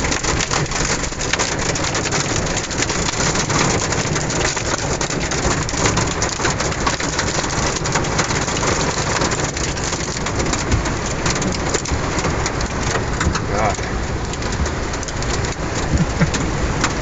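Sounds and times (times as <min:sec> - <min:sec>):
hailstones ticking: 0:00.0 - 0:17.0
heavy rain on truck roof: 0:00.0 - 0:17.0.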